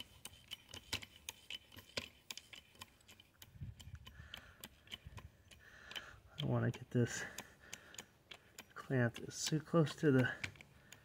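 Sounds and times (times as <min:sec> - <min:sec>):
cable crimper clicking: 0:00.0 - 0:11.0.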